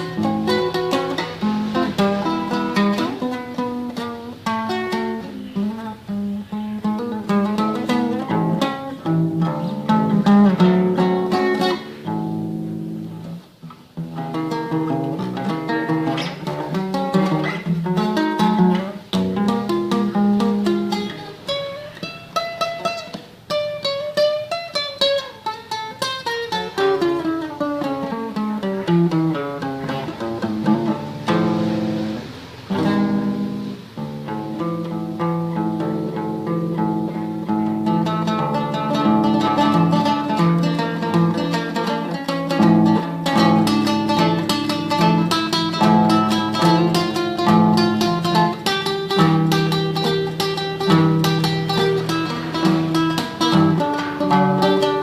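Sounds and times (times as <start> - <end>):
classical guitar tremolo: 0.0 - 55.0.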